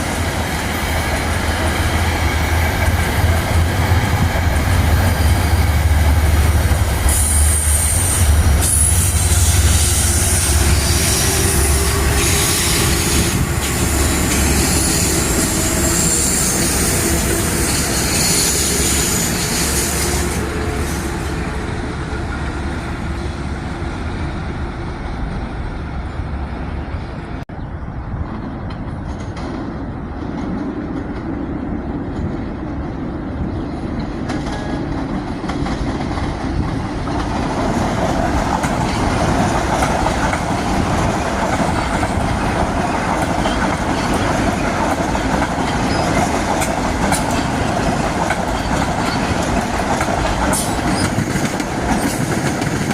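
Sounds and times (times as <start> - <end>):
train wheels clattering on rails: 0.0 - 22.8, 28.2 - 52.9.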